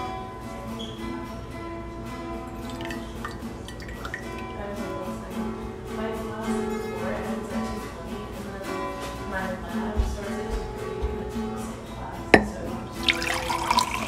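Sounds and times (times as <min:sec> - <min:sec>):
guitar music: 0:00.0 - 0:14.0.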